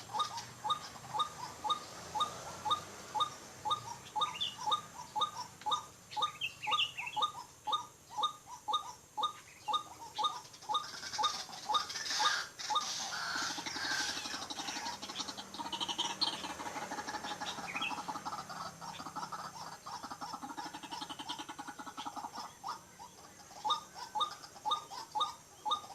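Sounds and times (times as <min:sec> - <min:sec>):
waterhen croaking calls: 0:00.0 - 0:25.9.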